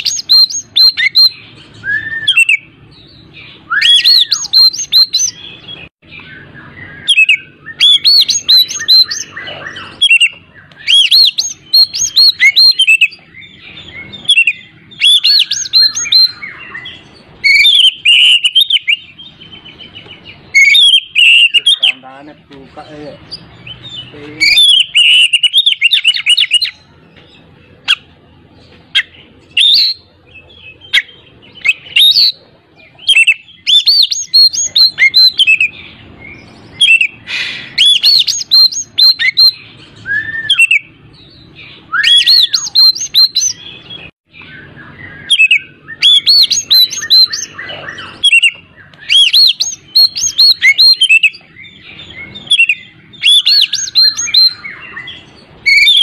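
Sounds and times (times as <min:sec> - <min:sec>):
bird singing whistles and chirps: 0:00.0 - 0:56.0.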